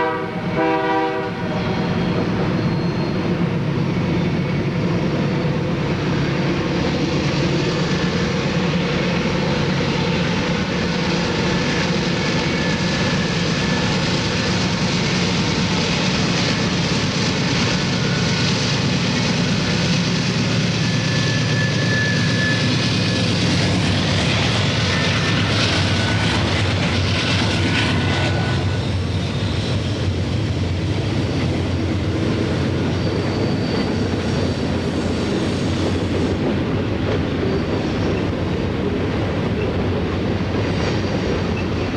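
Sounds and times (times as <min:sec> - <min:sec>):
locomotive engines droning: 0:00.0 - 0:41.9
wheels on rails squealing: 0:01.7 - 0:41.9.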